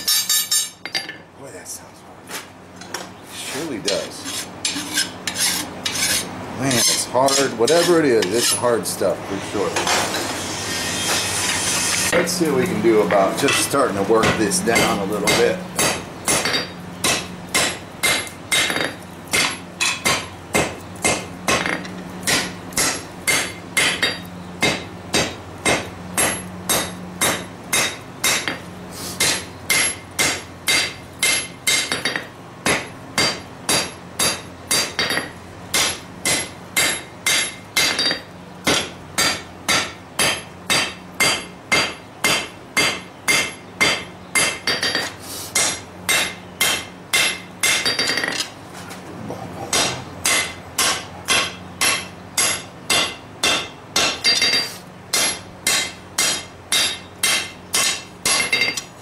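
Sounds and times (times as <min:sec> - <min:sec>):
hammer striking steel on anvil: 0:00.0 - 0:01.2, 0:04.6 - 0:08.6, 0:13.0 - 0:28.6, 0:29.2 - 0:48.5, 0:49.7 - 0:58.9.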